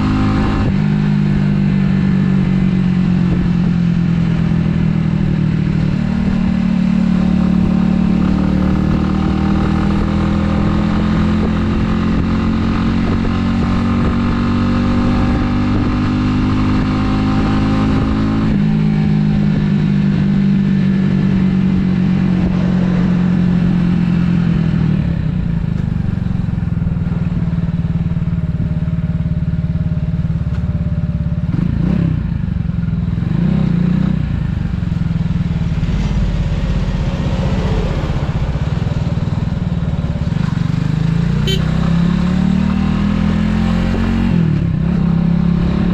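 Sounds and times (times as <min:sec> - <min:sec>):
motorcycle engine revving: 0:00.0 - 0:45.9
motorcycle engine running: 0:00.0 - 0:45.9.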